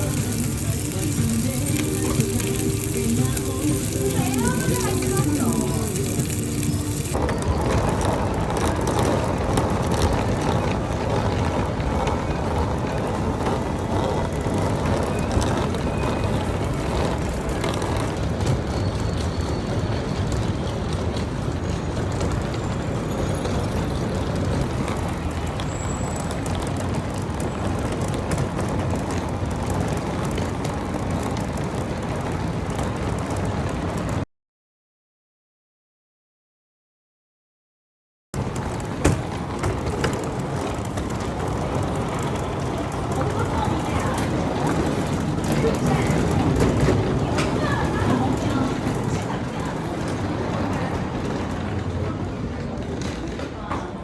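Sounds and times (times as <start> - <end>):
road vehicle rumble: 0.0 - 34.2, 38.4 - 54.0.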